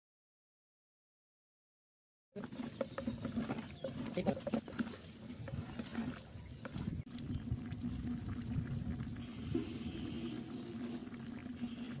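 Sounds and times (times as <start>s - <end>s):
curry bubbling in pot: 2.4s - 12.0s.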